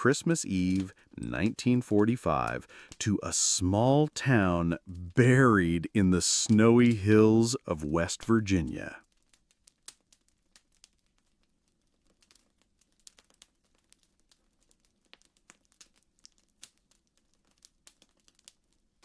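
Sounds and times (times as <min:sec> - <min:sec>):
fireplace crackling: 0:00.0 - 0:19.0.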